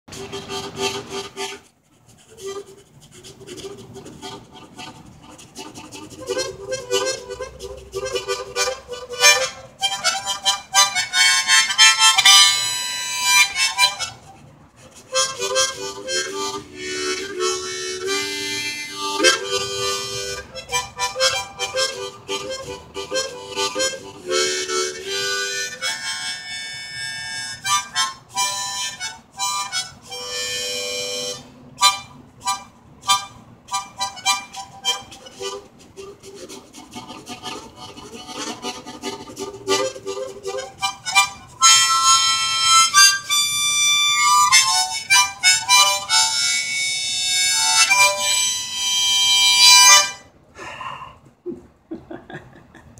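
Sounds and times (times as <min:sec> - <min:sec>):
harmonica train imitation: 0:00.1 - 0:50.8.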